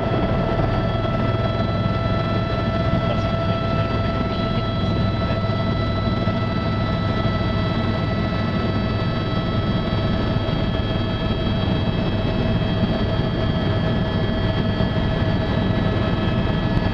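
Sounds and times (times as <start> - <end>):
aircraft engine droning: 0.0 - 16.9.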